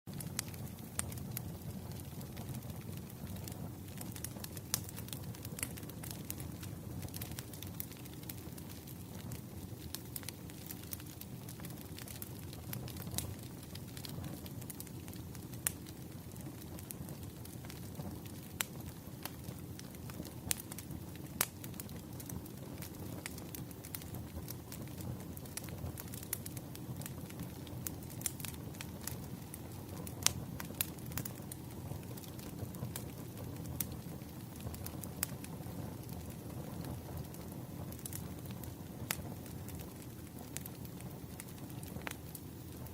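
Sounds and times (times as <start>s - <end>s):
bonfire crackling and popping: 0.1s - 42.9s
low fire rumble: 0.1s - 42.9s.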